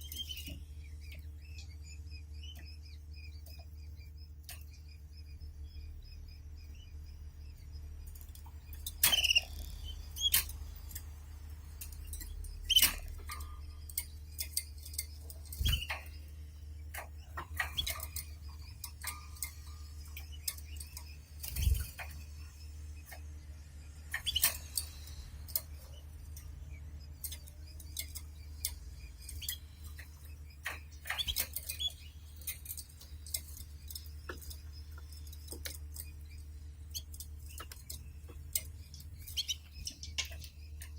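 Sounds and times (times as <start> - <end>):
canaries chirping: 0.0 - 40.9
steady low hum: 0.0 - 40.9.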